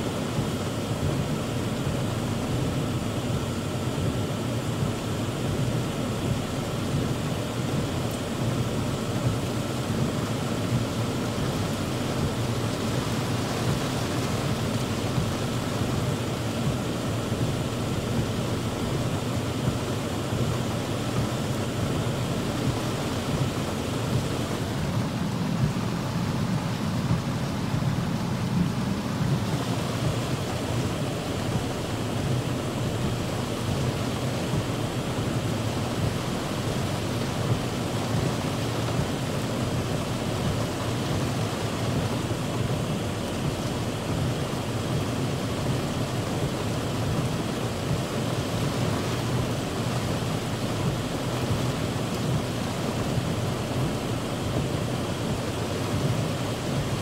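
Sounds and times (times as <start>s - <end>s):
heavy rain on a car roof: 0.0s - 57.0s.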